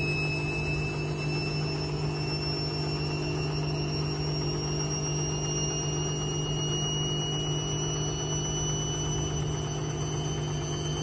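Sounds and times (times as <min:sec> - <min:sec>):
high-pitched whine: 0:00.0 - 0:11.0
washing machine motor hum: 0:00.0 - 0:11.0.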